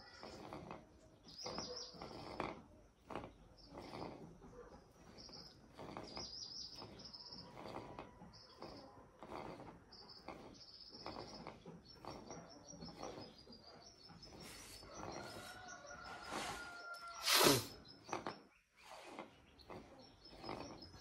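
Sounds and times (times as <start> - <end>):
small bird chirping: 0.0 - 4.2, 4.8 - 21.0
close-up chewing: 0.0 - 21.0.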